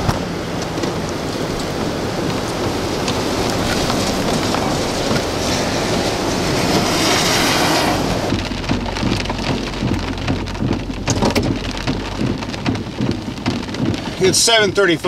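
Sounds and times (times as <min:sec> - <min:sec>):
heavy rain rushing: 0:00.0 - 0:15.0
raindrops pattering: 0:00.0 - 0:15.0.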